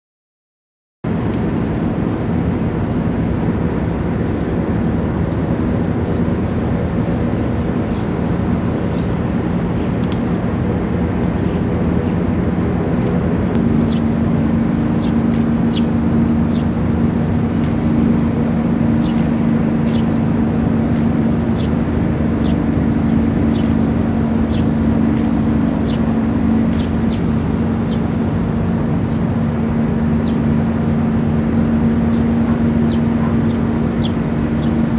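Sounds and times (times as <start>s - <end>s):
helicopter droning overhead: 1.0s - 34.9s.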